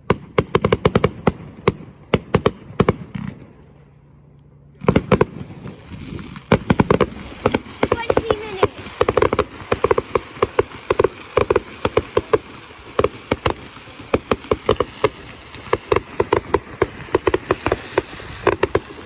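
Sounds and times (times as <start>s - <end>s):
fireworks banging and crackling: 0.0s - 3.6s, 4.8s - 19.0s.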